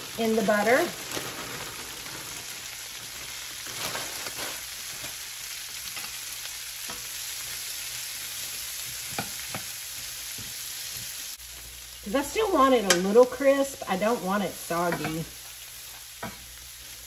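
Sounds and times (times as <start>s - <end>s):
cabbage sizzling in skillet: 0.0s - 17.0s.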